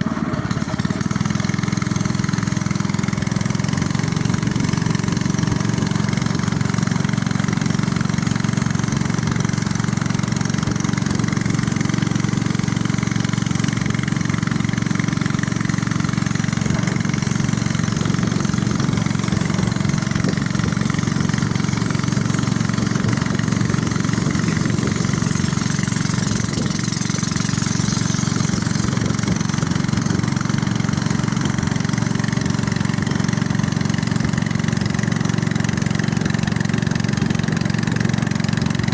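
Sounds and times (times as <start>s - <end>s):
boat motor running: 0.0s - 38.9s.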